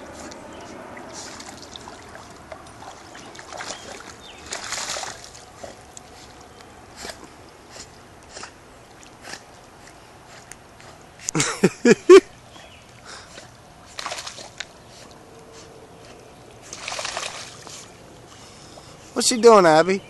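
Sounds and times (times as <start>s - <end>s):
dog paddling in water: 0.0s - 11.3s, 12.3s - 19.6s
water splashes: 0.0s - 19.9s.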